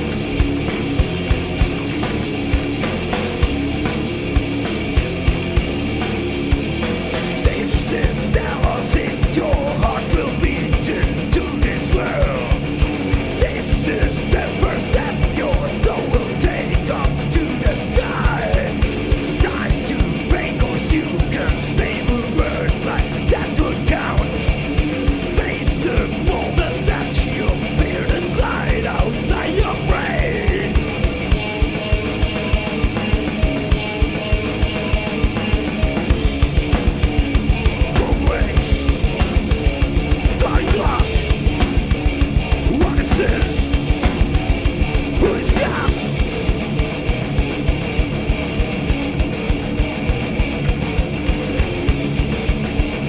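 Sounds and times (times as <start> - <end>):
bass guitar: 0.0 - 53.0
distorted electric guitars: 0.0 - 53.0
drums playing fast beat: 0.0 - 53.0.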